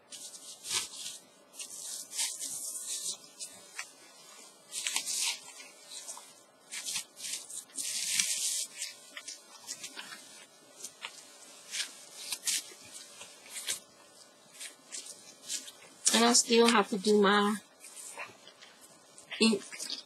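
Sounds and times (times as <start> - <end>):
plastic crinkling and rustling: 0.1 - 20.0.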